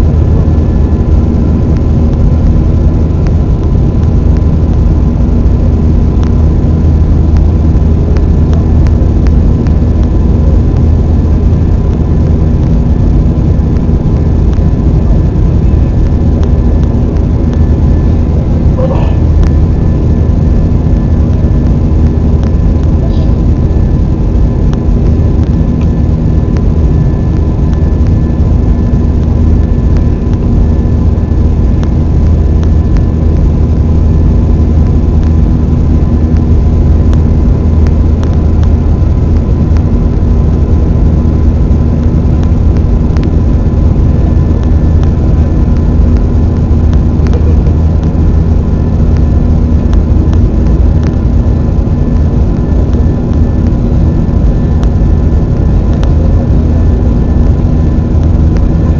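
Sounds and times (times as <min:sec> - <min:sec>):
faint steady whine: 0:00.0 - 0:58.9
jet engine cabin rumble: 0:00.0 - 0:58.9.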